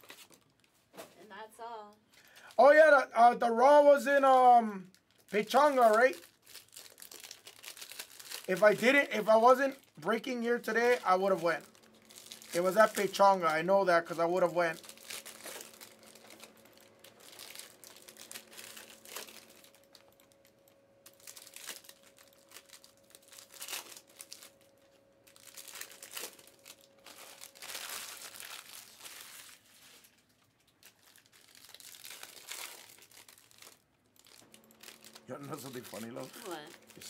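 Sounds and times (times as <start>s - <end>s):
foil wrappers crinkling and tearing: 0.0s - 0.8s, 4.8s - 37.0s.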